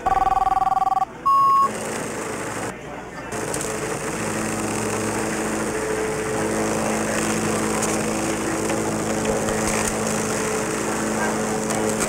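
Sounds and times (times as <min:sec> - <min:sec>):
fax machine motor whirring: 0:00.0 - 0:12.0.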